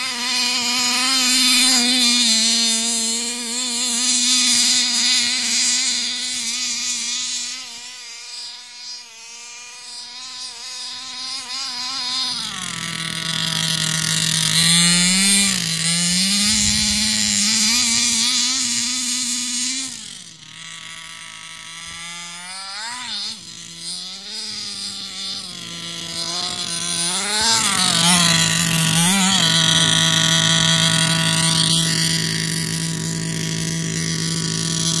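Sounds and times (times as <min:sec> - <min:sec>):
small two-stroke engine revving: 0:00.0 - 0:35.0.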